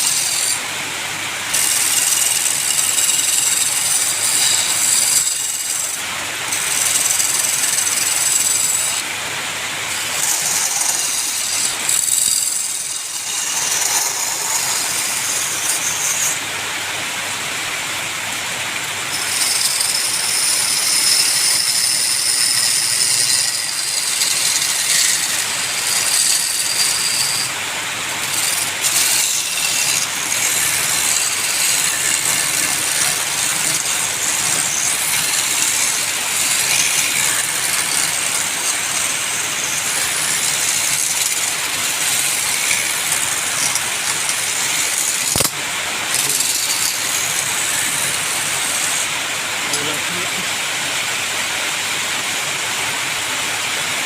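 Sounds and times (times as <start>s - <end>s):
wood lathe running: 0.0s - 16.4s, 18.8s - 50.2s.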